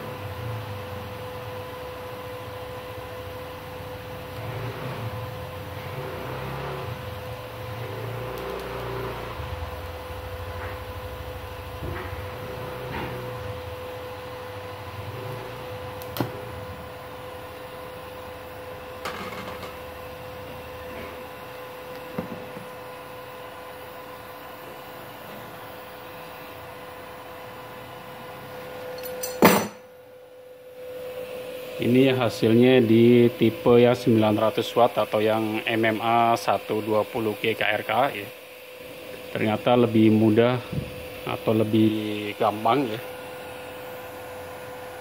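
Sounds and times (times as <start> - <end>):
welding arc hiss and buzz: 0.0 - 29.7, 30.6 - 45.0
constant high hum: 6.9 - 45.0.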